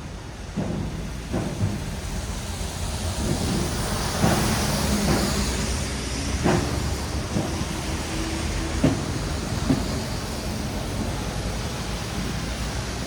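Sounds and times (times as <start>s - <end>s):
engines rumbling: 0.0s - 13.0s
tyres hissing on wet asphalt: 0.0s - 13.0s
heavy thumps: 0.5s - 11.3s.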